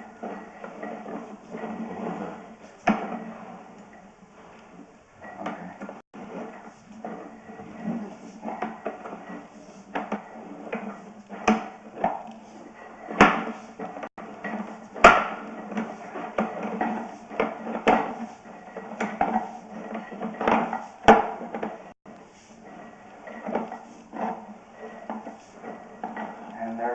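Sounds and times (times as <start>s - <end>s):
cable knocking and clattering: 0.0s - 22.0s.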